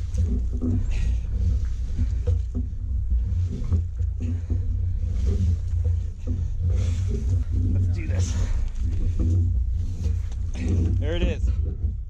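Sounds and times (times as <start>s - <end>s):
heavy low rumble: 0.0s - 12.0s.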